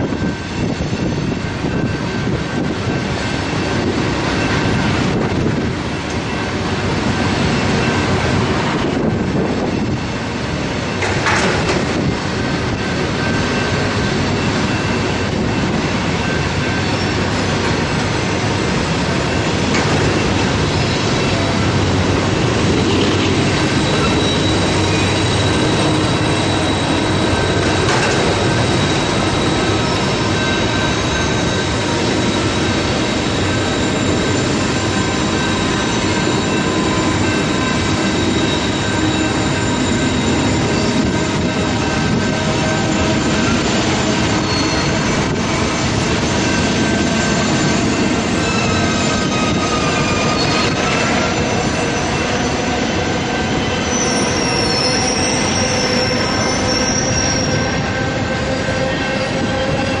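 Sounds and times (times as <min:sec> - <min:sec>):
high metal squealing: 0:00.0 - 1:00.0
train rumbling past: 0:00.0 - 1:00.0.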